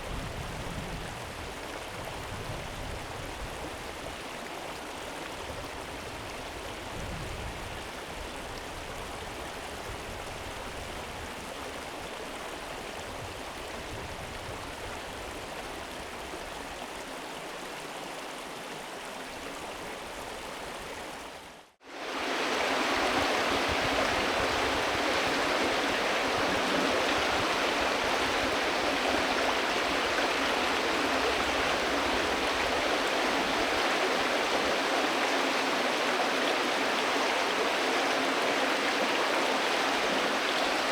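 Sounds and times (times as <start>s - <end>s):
river water flowing: 2.9s - 40.9s.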